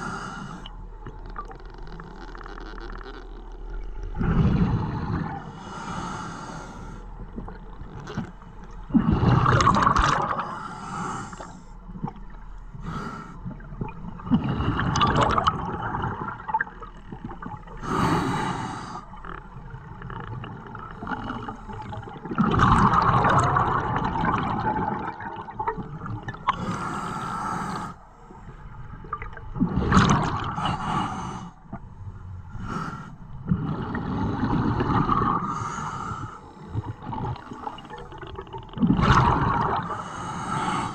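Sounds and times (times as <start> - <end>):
underwater exhaled air bubbling: 0.0 - 31.9, 32.6 - 40.9.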